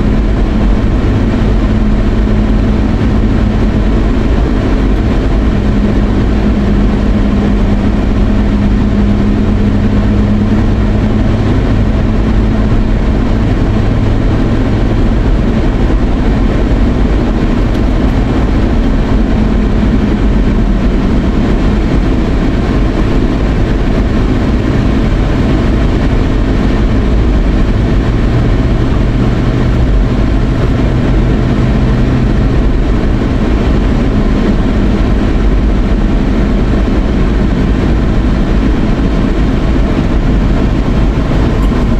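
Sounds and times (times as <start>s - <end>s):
car engine hum: 0.0s - 41.9s
tyre and road noise: 0.0s - 41.9s.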